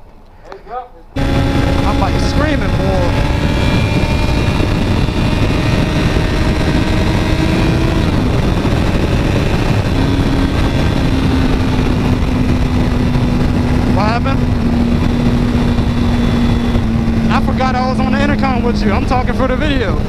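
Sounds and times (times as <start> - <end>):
motorcycle engine at speed: 1.2 - 20.0
wind noise on microphone: 1.2 - 20.0.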